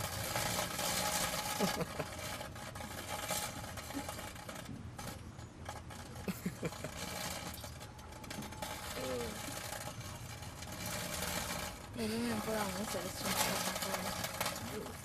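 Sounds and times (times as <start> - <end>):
microwave oven humming: 0.0 - 15.0
short crackles: 0.0 - 15.0.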